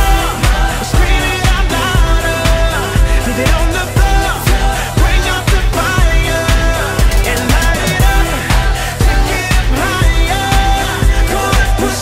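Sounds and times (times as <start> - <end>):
hip-hop backing music: 0.0 - 12.0.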